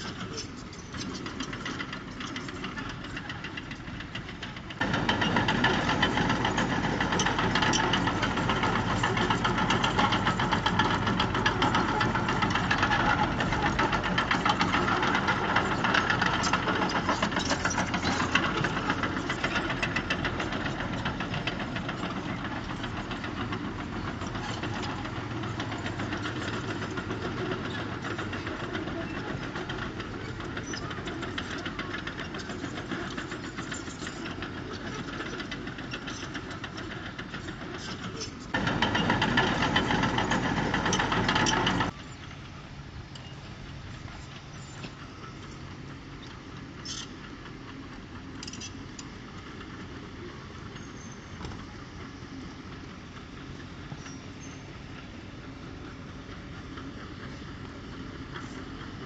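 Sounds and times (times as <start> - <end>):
heavy diesel engine knocking: 0.0 - 42.0, 51.6 - 59.0.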